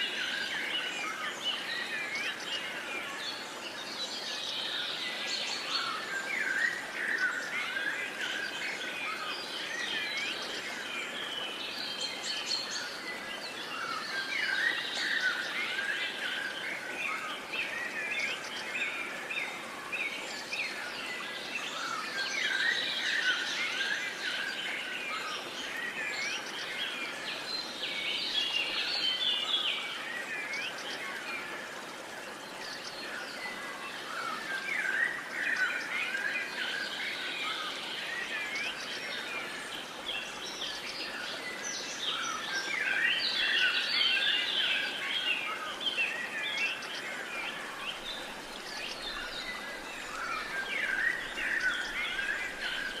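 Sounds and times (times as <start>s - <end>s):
songbirds chirping and trilling: 0.0s - 53.0s
steady background hiss: 0.0s - 53.0s.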